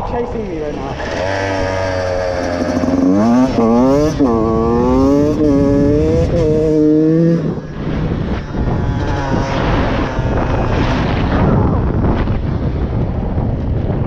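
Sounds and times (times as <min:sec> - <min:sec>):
dirt bike engine: 0:00.0 - 0:14.0
wind buffeting microphone: 0:00.0 - 0:14.0.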